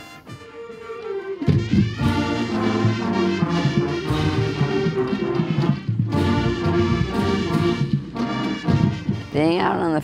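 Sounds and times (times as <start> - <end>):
marching band playing: 0.0 - 10.0.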